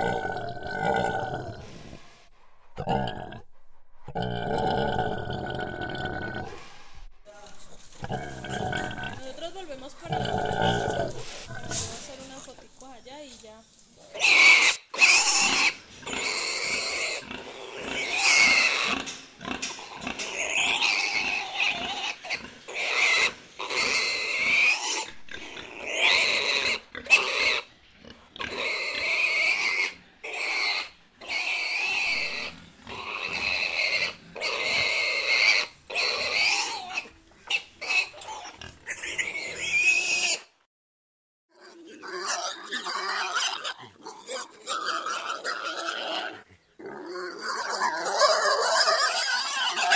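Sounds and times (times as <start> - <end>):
pigs squealing: 0.0 - 1.8, 7.9 - 12.3, 14.1 - 40.5, 41.5 - 49.9.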